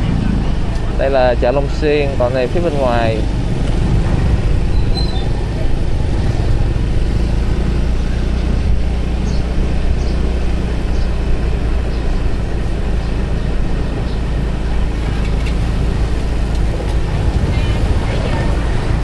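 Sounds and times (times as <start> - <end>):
motorbike rumbling: 0.0 - 19.0.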